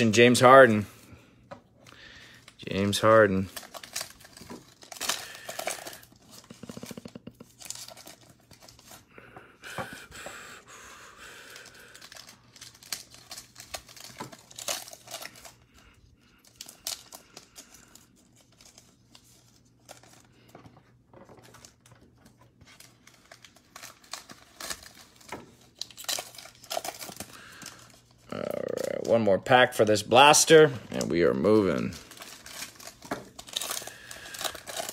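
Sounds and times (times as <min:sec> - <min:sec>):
foil wrappers crinkling and tearing: 0:01.8 - 0:09.1, 0:11.3 - 0:34.9.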